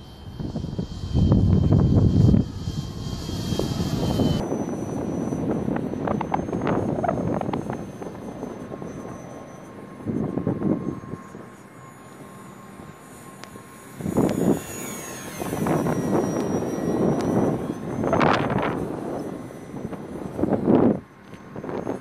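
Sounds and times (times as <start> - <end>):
wind rumbling on microphone: 0.0 - 11.5, 14.0 - 22.0
model plane motor whine: 0.0 - 22.0.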